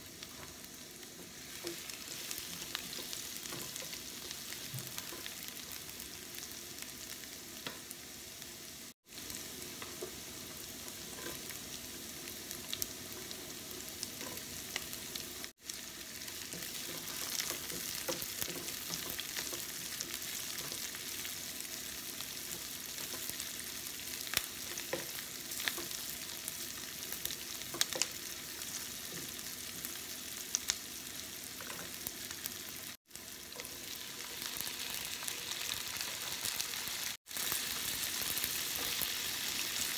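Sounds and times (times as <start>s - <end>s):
garlic and onion sizzling in oil: 0.0s - 39.9s.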